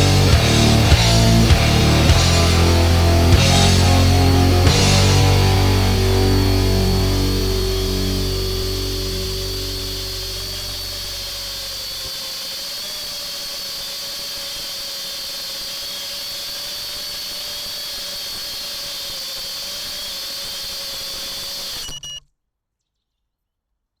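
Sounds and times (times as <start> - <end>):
high-pitched electronic whine: 0.0 - 22.2
quadcopter motors whining: 0.0 - 22.2.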